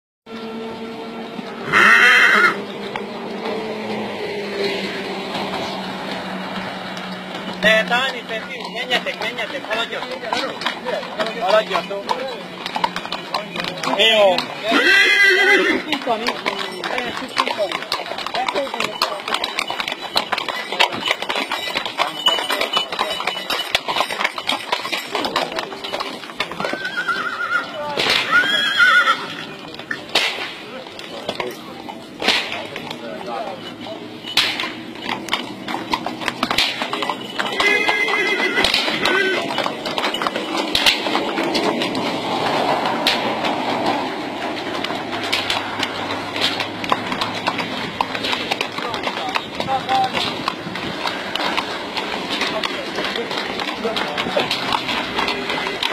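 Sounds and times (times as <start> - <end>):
outdoor noise: 0.2 - 55.9
horse hooves on asphalt: 0.3 - 55.9.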